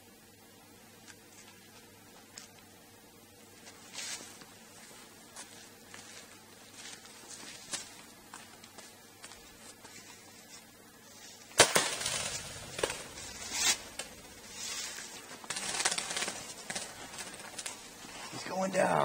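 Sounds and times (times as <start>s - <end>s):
rustling: 3.5s - 19.0s.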